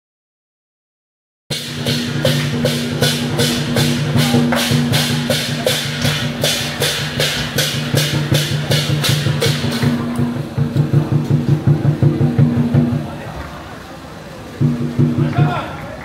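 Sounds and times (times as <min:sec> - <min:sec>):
cymbals clashing: 0:01.5 - 0:13.3, 0:13.9 - 0:16.0
drums beating: 0:01.5 - 0:13.8, 0:14.4 - 0:16.0.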